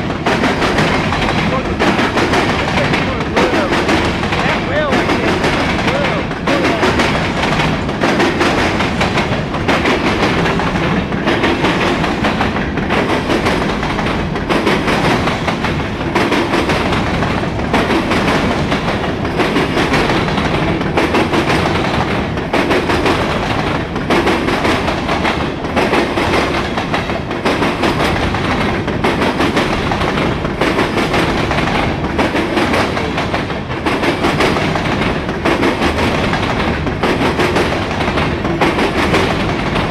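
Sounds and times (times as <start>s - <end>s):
freight train wheels clacking on rails: 0.0s - 39.9s.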